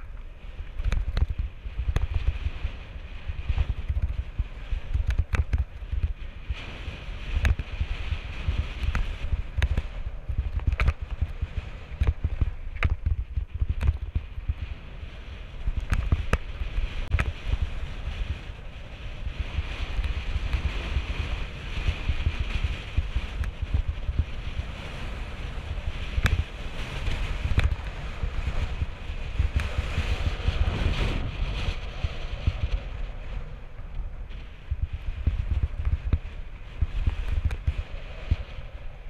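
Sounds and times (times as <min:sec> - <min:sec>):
bike tyres rumbling on dirt: 0:00.0 - 0:39.0
wind buffeting microphone: 0:00.0 - 0:39.0.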